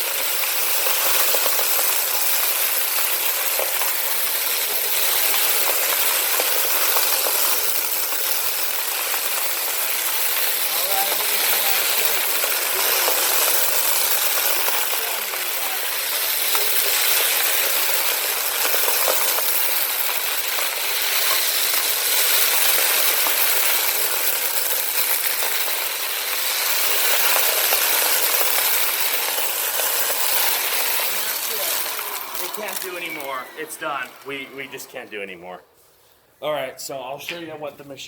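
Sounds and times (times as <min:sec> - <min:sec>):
debris clicking and rattling: 0:00.0 - 0:34.8
upright vacuum running: 0:00.0 - 0:35.2.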